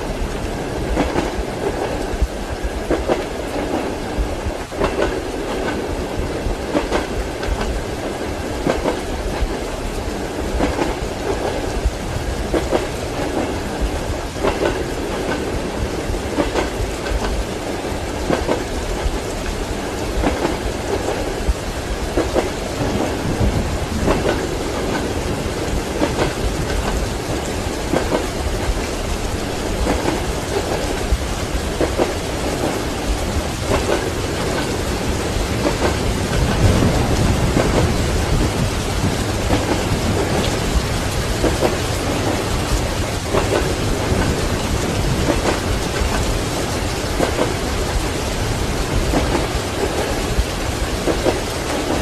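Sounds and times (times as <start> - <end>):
low rumble of moving carriage: 0.0 - 52.0
rain falling: 0.0 - 52.0
train wheels clacking over rail joints: 0.0 - 52.0.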